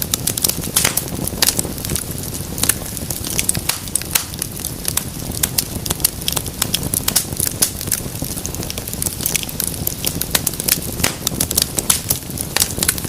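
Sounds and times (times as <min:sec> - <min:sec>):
low rushing of flame: 0:00.0 - 0:13.0
wood fire crackling: 0:00.0 - 0:13.0.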